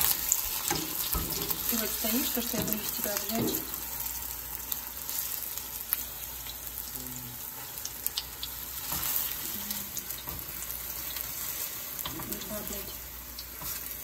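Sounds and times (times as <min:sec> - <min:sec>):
pancake sizzling in oil: 0:00.0 - 0:14.0.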